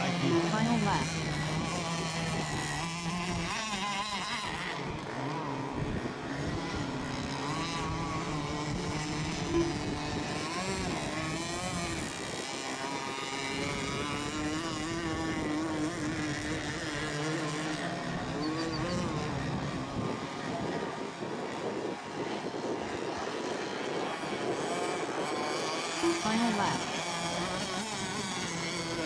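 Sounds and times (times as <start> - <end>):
small boat engines racing: 0.0 - 29.0.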